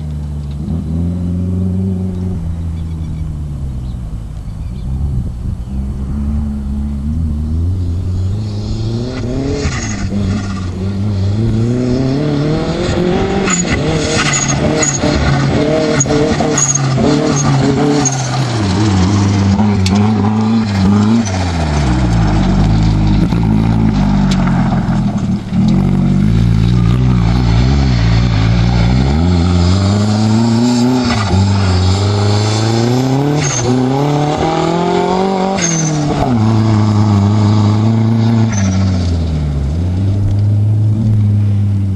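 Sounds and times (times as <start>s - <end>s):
truck engine revving: 0.0s - 41.6s.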